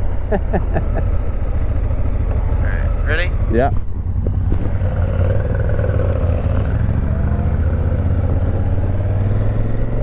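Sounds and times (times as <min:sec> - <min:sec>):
motorcycle engine humming: 0:00.0 - 0:10.0.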